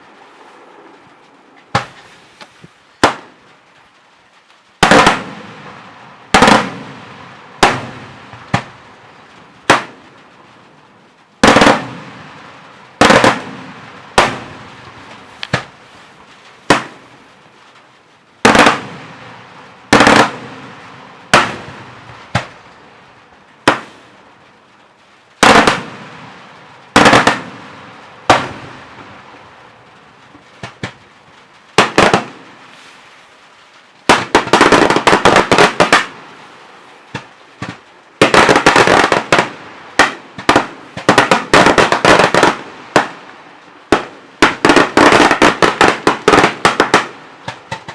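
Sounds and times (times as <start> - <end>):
firework bangs: 0.0 - 47.9.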